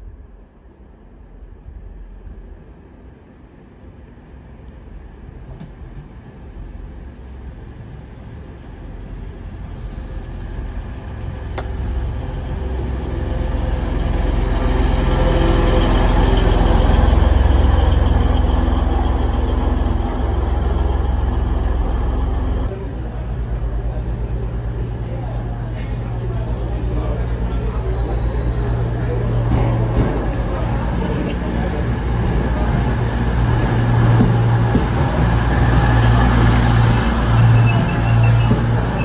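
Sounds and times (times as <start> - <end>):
diesel train engines and wheels rumbling: 0.0 - 39.0.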